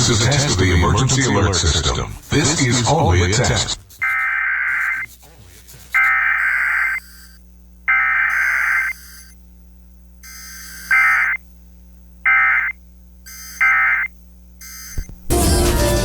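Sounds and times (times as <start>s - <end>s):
modem-like digital data bursts: 0.0s - 11.6s, 12.2s - 15.4s.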